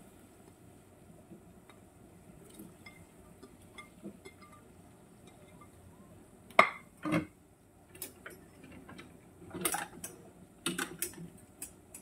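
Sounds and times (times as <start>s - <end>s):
faint low background noise: 0.0s - 12.0s.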